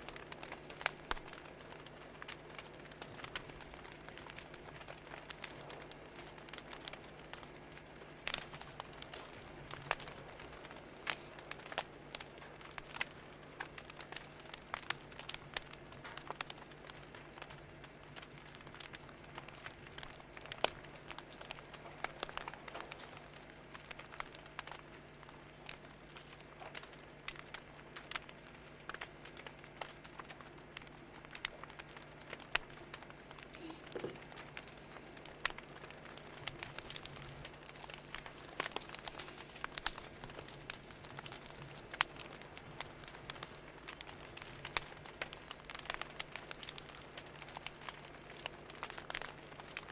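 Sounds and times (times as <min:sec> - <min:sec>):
faint low hum: 0:00.0 - 0:49.8
fire crackling and popping: 0:00.0 - 0:49.9.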